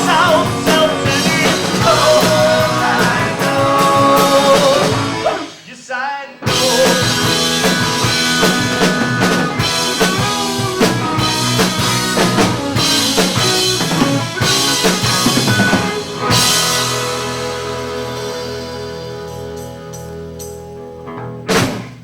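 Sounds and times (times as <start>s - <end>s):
drum hits: 0.0s - 5.7s, 6.5s - 18.5s, 21.5s - 22.0s
rock band playing live: 0.0s - 5.8s, 6.4s - 22.0s.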